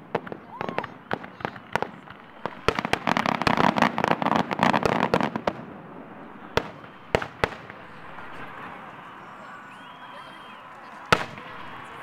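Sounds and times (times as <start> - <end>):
fireworks bursting with bangs: 0.0 - 9.2, 10.0 - 12.0
fireworks crackling: 0.0 - 12.0.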